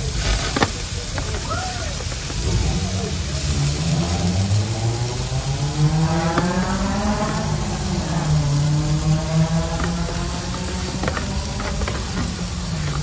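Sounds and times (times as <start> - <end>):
food sizzling on grill: 0.0 - 13.0
engine running: 2.0 - 13.0.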